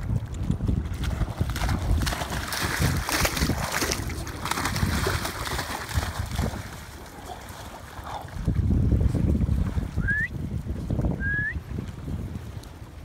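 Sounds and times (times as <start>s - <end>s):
dogs splashing through water: 0.0s - 10.8s
wind rumbling on microphone: 0.0s - 13.0s.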